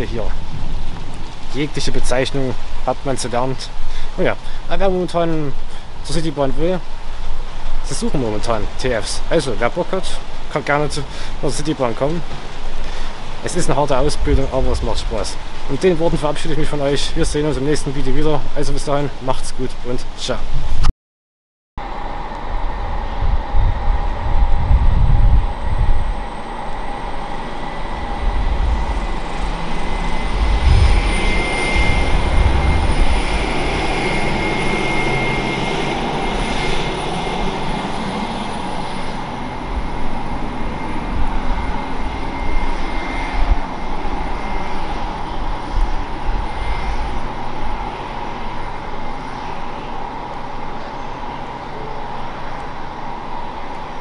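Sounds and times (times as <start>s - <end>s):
wind buffeting microphone: 0.0s - 18.6s, 22.4s - 49.2s
railway vehicle whine and rumble: 0.0s - 20.9s, 21.8s - 54.0s.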